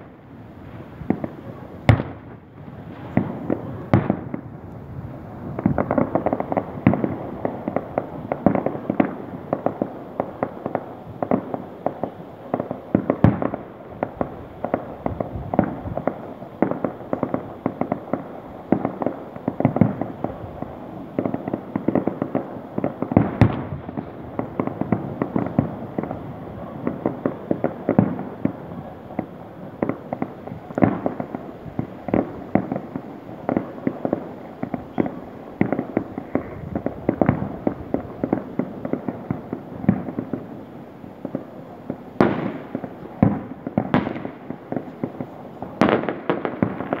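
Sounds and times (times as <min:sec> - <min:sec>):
fireworks crackling and popping: 0:00.0 - 0:47.0
sharp fireworks bangs: 0:00.0 - 0:47.0.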